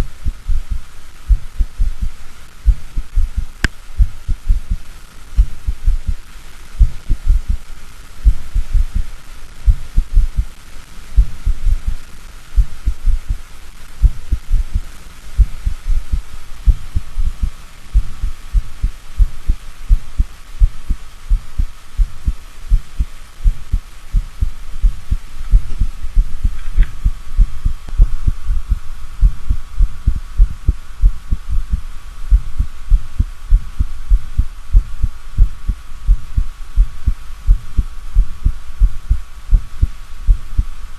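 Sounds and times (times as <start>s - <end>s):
heartbeat thuds: 0.0s - 4.8s, 5.4s - 6.2s, 6.8s - 7.6s, 8.2s - 10.5s, 11.2s - 12.0s, 12.6s - 13.4s, 14.0s - 40.7s
faint high hum: 0.0s - 40.9s.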